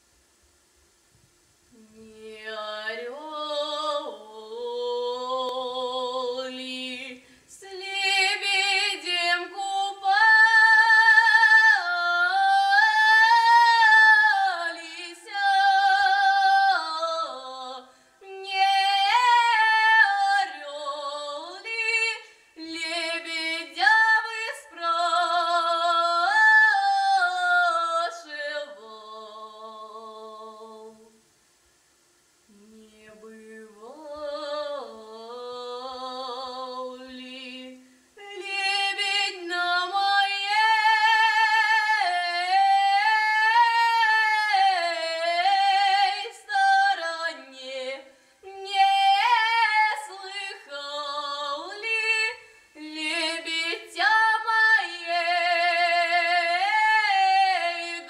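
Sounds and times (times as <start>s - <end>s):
girl singing unaccompanied: 1.7s - 31.3s, 32.4s - 58.0s.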